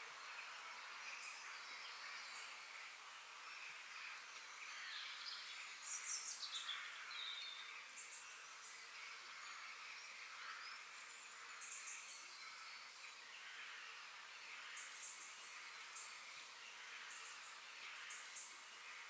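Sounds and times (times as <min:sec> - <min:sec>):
distant birds and insects: 0:00.0 - 0:19.0.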